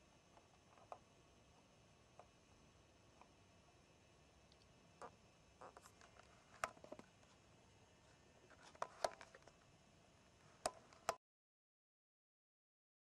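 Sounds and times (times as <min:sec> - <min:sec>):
low hiss: 0:00.0 - 0:11.2.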